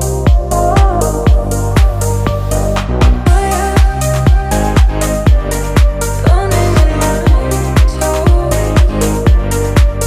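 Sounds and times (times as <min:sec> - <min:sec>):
kick drum: 0:00.0 - 0:10.0.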